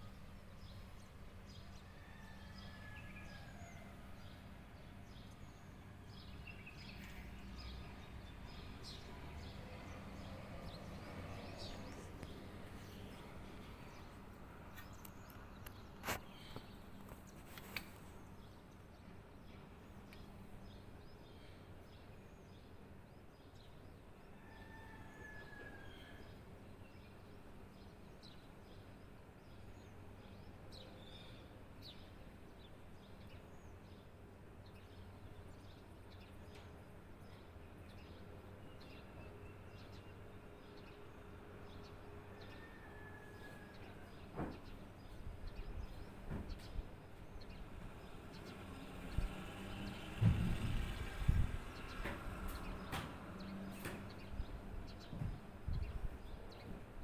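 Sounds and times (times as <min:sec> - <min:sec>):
faint birdsong: 0:00.0 - 0:57.0.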